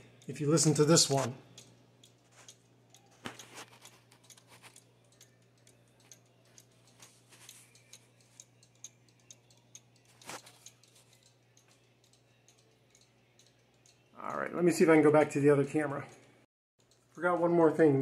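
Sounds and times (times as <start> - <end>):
clock ticking: 0.0 - 16.2.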